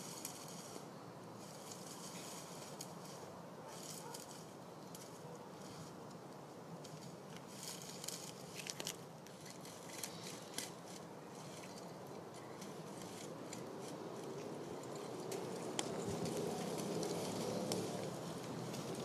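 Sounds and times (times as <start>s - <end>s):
faint clicks and crackles: 0.0s - 19.0s.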